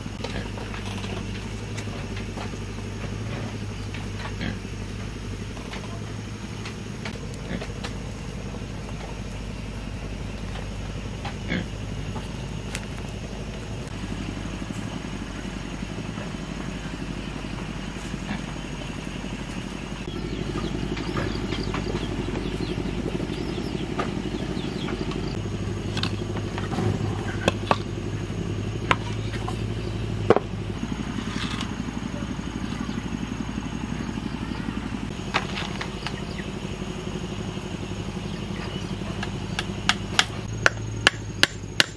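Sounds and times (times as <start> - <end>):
low engine-like hum: 0.0 - 41.9.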